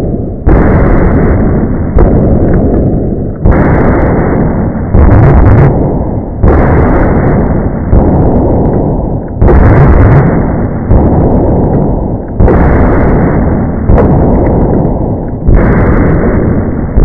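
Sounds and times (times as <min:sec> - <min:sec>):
distorted noise-like audio: 0:00.0 - 0:17.0.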